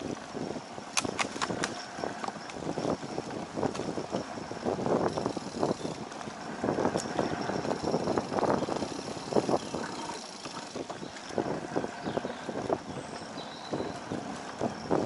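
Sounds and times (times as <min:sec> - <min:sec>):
bike clicks and rattles: 0:00.8 - 0:15.0.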